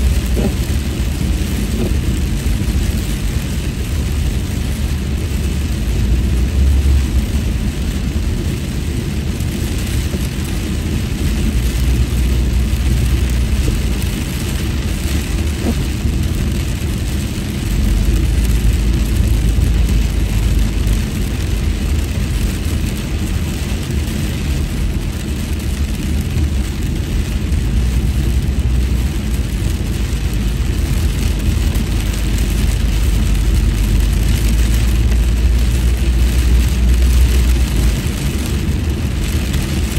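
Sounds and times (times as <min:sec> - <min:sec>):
car road noise rumble: 0:00.0 - 0:39.9
tyres hissing on wet road: 0:00.0 - 0:39.9.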